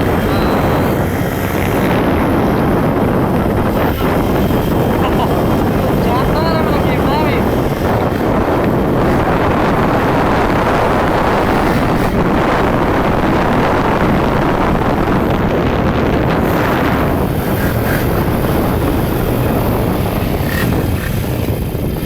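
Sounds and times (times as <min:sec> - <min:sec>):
pit bike engine running: 0:00.0 - 0:22.0
wind noise on microphone: 0:00.0 - 0:22.0.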